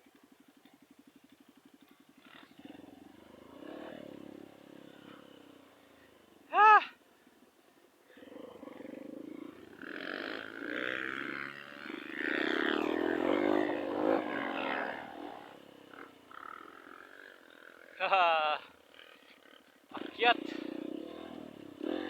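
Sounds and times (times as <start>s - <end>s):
motorcycle engine revving: 0.1s - 6.8s, 8.1s - 22.0s.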